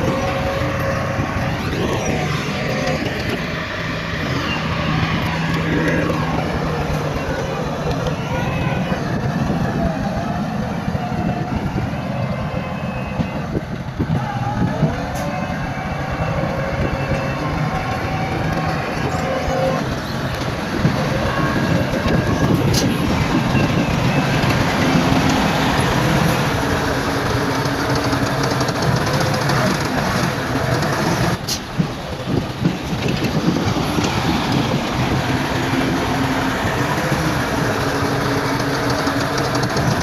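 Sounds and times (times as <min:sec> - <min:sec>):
bulldozer diesel engine: 0:00.0 - 0:40.0
steel tracks clanking and squealing: 0:00.0 - 0:40.0.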